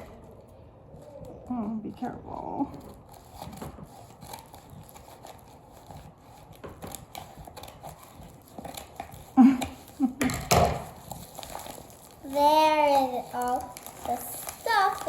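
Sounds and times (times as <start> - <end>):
packaging crinkling and rustling: 0.0 - 15.0
packaging ripping: 2.7 - 15.0.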